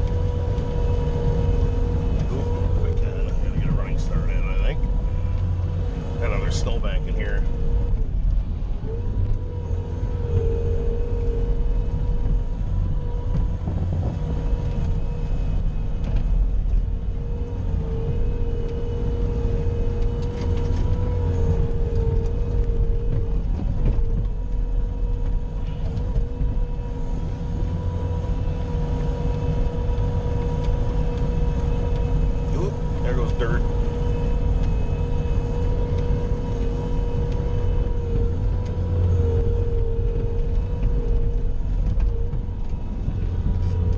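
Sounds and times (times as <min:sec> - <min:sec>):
loader engine rumbling: 0:00.0 - 0:43.9
steady whine: 0:00.0 - 0:43.9.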